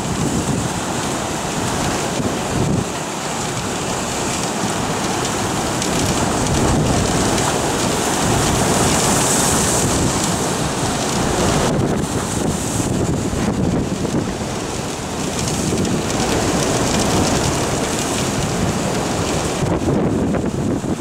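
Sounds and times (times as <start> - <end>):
strong wind buffeting microphone: 0.0 - 21.0
surf breaking on breakwater: 0.0 - 21.0.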